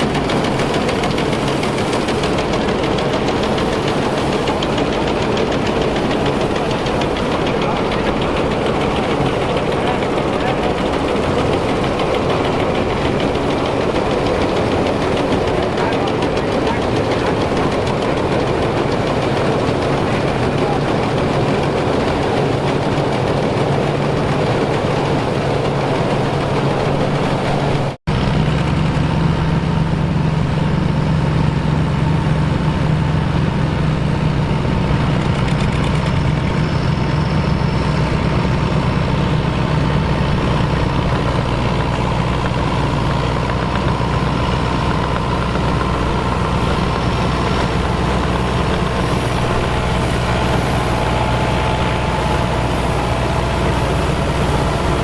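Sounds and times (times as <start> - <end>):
farm machine engine running: 0.0 - 55.0.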